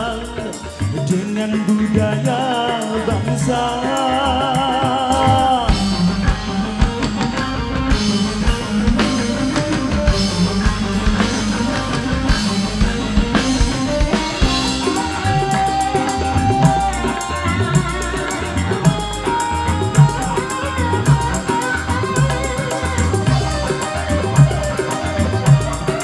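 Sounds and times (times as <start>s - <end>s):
live band instrumental: 0.0s - 26.0s
held melody note: 4.9s - 26.0s.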